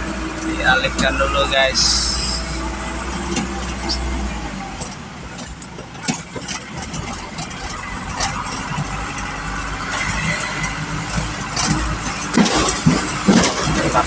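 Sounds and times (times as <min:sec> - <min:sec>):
traffic noise: 0:00.0 - 0:14.0
vehicle engines running: 0:00.0 - 0:14.0.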